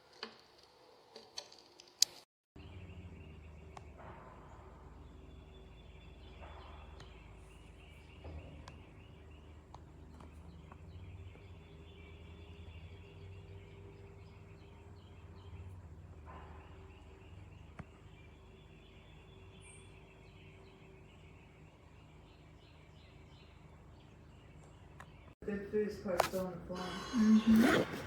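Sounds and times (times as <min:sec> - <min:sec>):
small birds chirping: 0:02.1 - 0:28.0.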